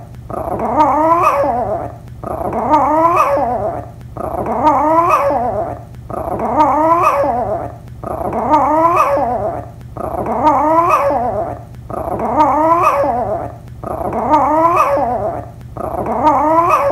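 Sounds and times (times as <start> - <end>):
dog howling and growling: 0.0 - 16.9.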